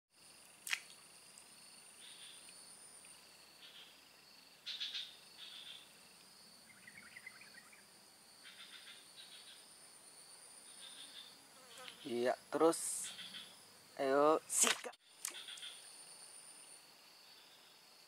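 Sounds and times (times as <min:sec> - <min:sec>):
insect drone with chirping trills: 0:00.2 - 0:18.0.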